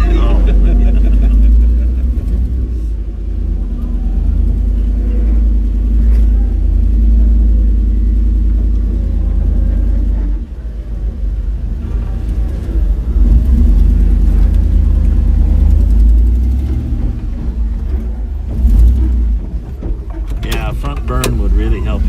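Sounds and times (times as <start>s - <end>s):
off-road vehicle engine rumbling: 0.0s - 22.0s.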